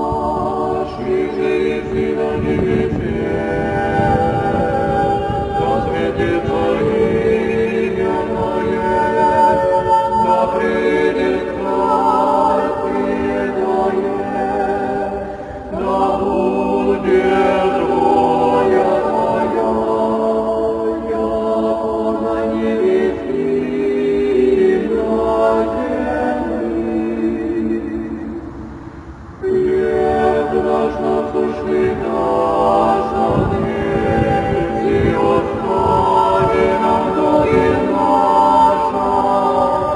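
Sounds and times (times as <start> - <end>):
voices singing in harmony: 0.0 - 39.9.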